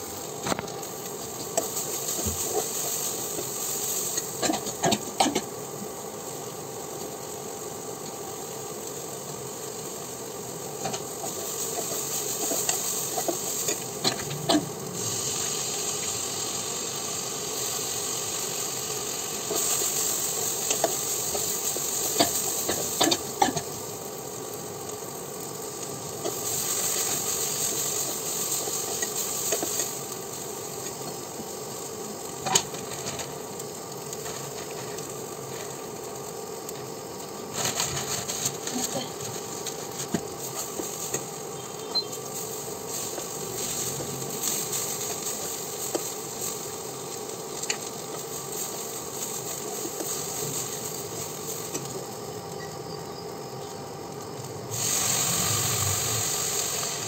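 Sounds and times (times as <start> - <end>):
noodles sizzling in a frying pan: 0.0 - 57.0.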